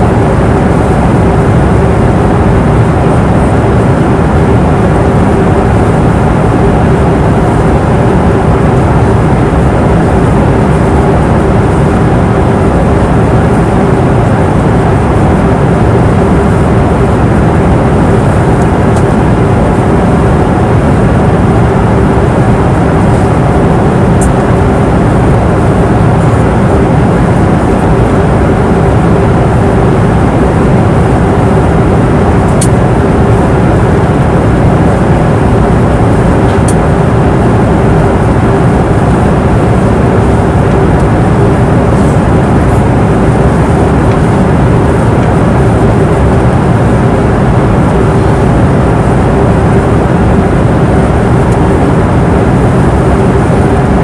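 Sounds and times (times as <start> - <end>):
airplane cabin rush: 0.0 - 54.0
constant hum tone: 0.0 - 54.0.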